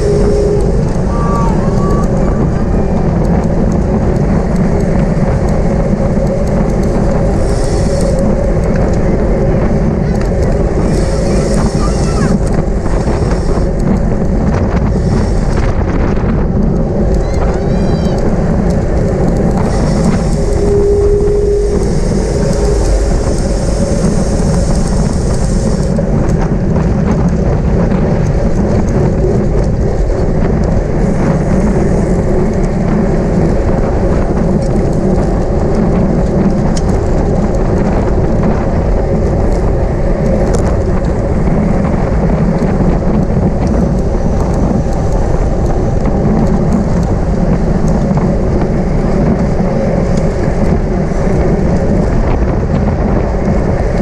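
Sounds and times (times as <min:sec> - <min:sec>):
bicycle tyre and road noise: 0:00.0 - 0:54.0
wind buffeting microphone: 0:00.0 - 0:54.0.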